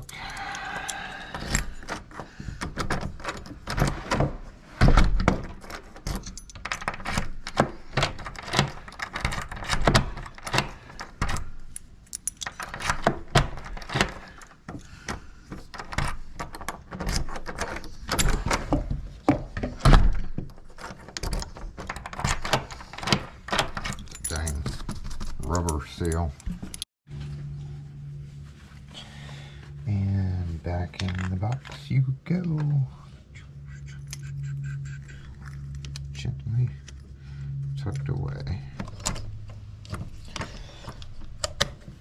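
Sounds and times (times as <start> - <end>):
keys and lock parts rattling: 0.0 - 4.4, 5.0 - 26.8, 30.9 - 32.0, 33.8 - 42.0.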